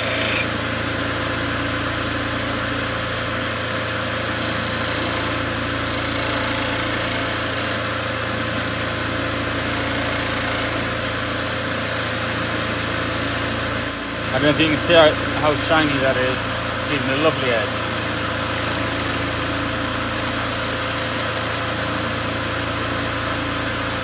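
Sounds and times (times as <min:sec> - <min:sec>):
lathe knife shaving wood: 0:00.0 - 0:24.0
lathe motor hum: 0:00.0 - 0:24.0.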